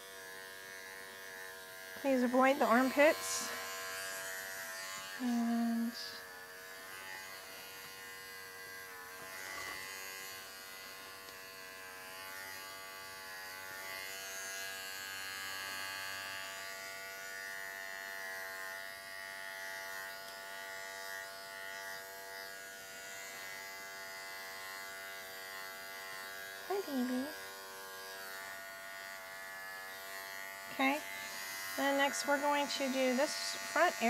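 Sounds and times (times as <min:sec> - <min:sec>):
pet clipper buzzing: 0:00.0 - 0:34.0.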